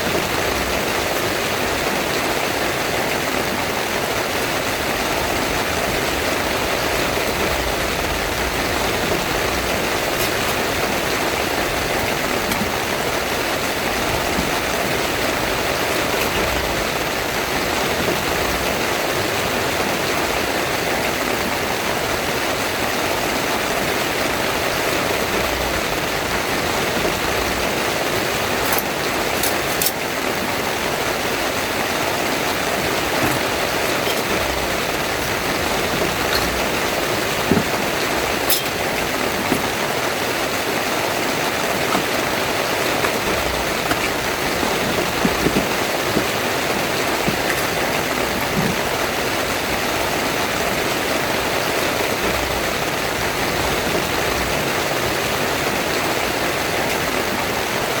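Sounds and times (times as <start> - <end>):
heavy rain on a tent: 0.0 - 58.0.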